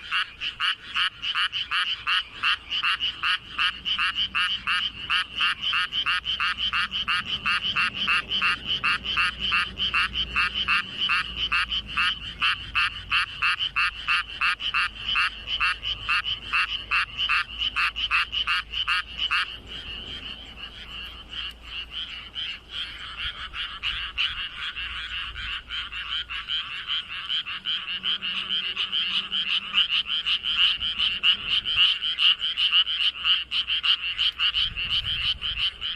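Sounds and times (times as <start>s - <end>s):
frogs croaking: 0.0s - 35.9s.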